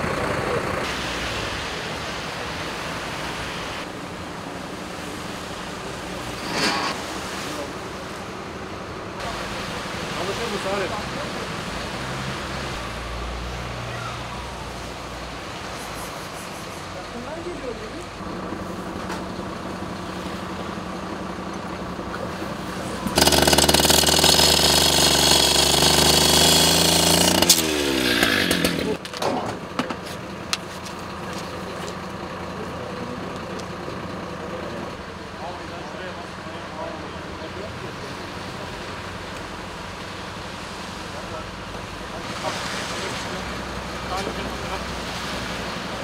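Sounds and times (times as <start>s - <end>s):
steady traffic hiss: 0.0s - 29.1s, 30.0s - 46.0s
vehicle engine rumble: 0.0s - 46.0s.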